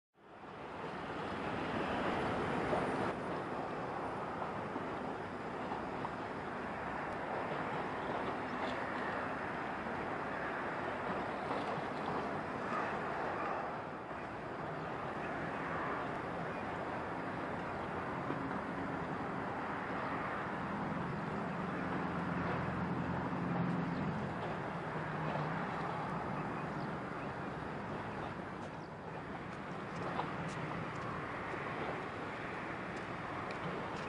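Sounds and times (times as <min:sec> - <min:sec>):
wind: 0:00.1 - 0:34.0
water rushing: 0:00.3 - 0:34.0.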